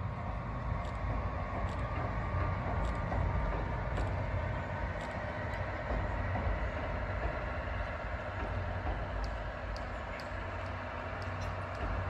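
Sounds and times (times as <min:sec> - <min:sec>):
distant train rumbling on bridge: 0:00.0 - 0:12.0.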